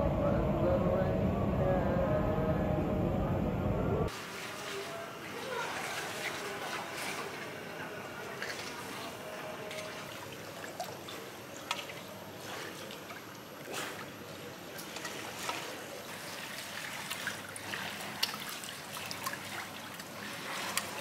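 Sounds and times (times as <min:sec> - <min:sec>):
pool water lapping and trickling: 0:04.1 - 0:21.0
small splashes of feet: 0:04.1 - 0:21.0.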